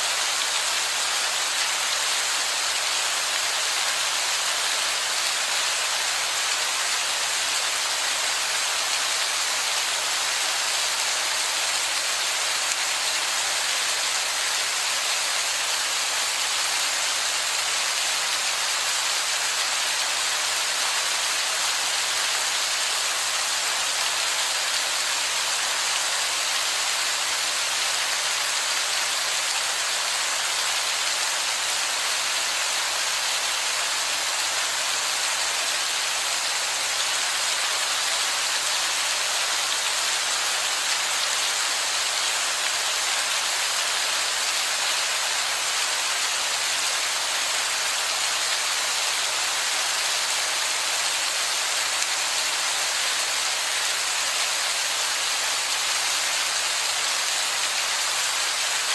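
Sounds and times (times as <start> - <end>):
heavy rain splashing on rock: 0.0 - 58.9.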